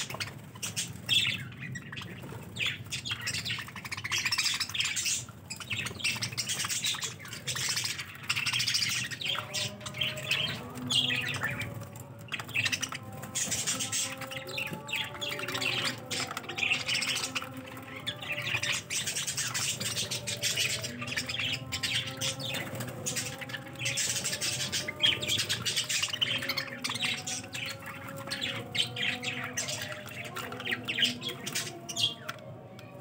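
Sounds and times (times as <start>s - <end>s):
budgerigars chattering and chirping: 0.0s - 32.3s.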